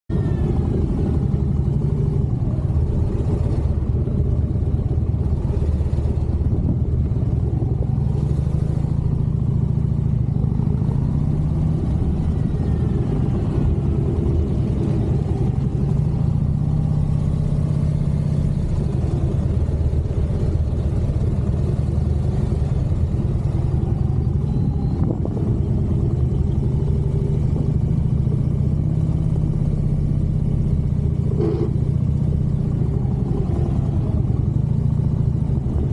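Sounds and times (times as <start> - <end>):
motorcycle engine running: 0.1 - 35.9.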